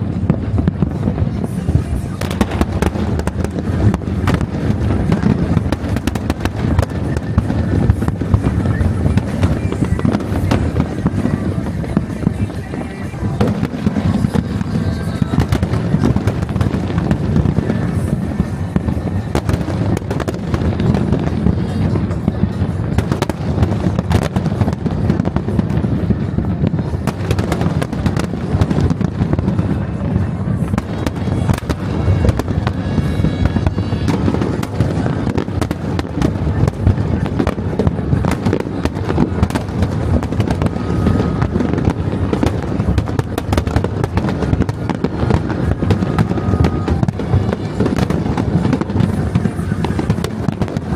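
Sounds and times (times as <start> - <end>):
fireworks bangs and crackles: 0.0 - 50.9
rumble of explosions: 0.0 - 50.9.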